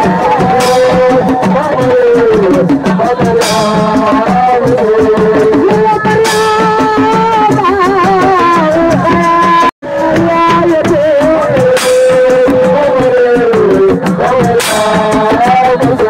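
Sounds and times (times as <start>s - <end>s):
fast steady drum rhythm: 0.0s - 16.0s.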